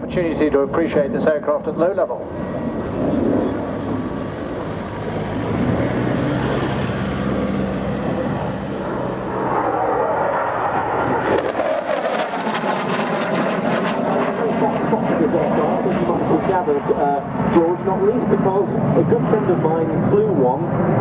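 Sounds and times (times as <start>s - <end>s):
jet fighter low pass roar: 0.0s - 21.0s.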